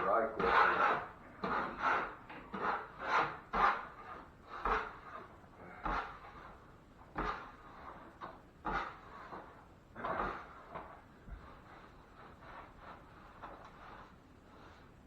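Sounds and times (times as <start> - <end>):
drywall knife scraping: 0.0 - 15.0.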